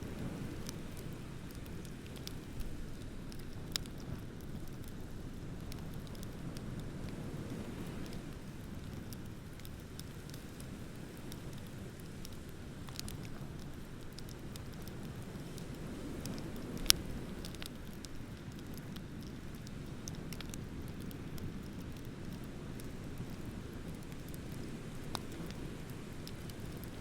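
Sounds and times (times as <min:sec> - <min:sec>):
bonfire crackling and popping: 0:00.0 - 0:27.0
ocean surf rumble: 0:00.0 - 0:27.0.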